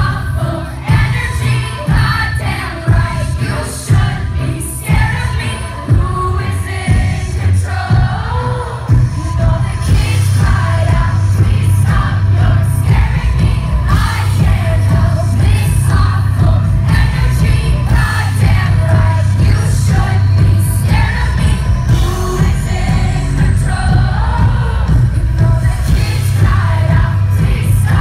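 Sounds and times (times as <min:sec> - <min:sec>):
electropop backing track with bass: 0:00.0 - 0:28.0
woman singing into microphone: 0:00.0 - 0:28.0.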